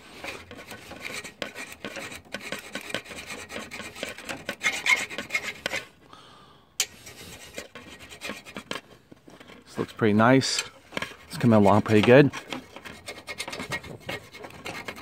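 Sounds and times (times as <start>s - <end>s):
hand file rasping metal: 0.0s - 5.9s, 6.8s - 15.0s.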